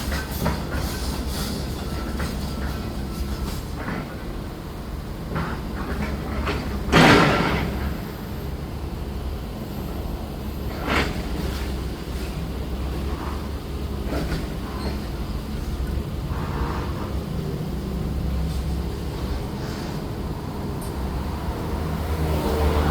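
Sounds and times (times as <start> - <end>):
heavy machinery running: 0.0 - 22.9.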